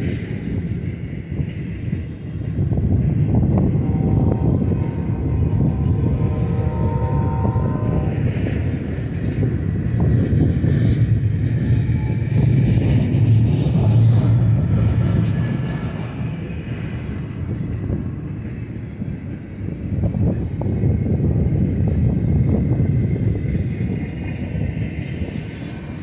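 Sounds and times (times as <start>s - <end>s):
train wheels rumbling on rails: 0.0s - 26.0s
high squealing of wheels: 1.2s - 26.0s.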